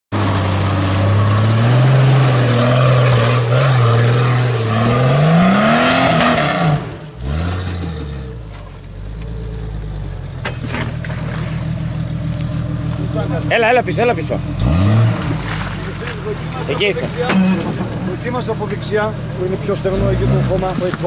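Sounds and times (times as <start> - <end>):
car engine revving under load: 0.1 - 21.0.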